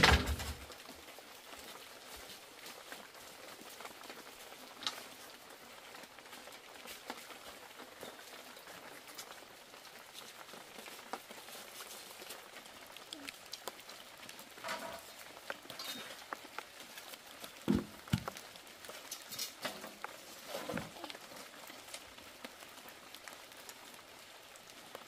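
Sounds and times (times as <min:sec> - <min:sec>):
light rain pattering: 0:00.0 - 0:25.0.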